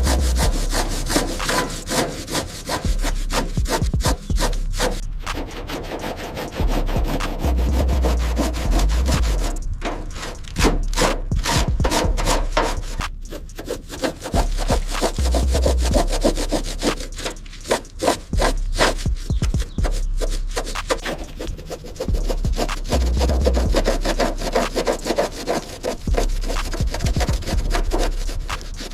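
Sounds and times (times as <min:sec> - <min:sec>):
dull low handling thumps: 0:00.0 - 0:02.0, 0:02.8 - 0:05.5, 0:06.5 - 0:25.1, 0:26.0 - 0:28.9
hand scrubbing on a surface: 0:00.0 - 0:28.9.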